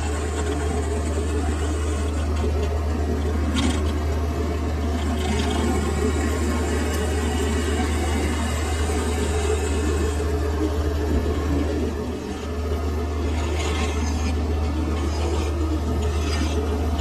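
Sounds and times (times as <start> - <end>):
lathe motor hum: 0.0 - 17.0.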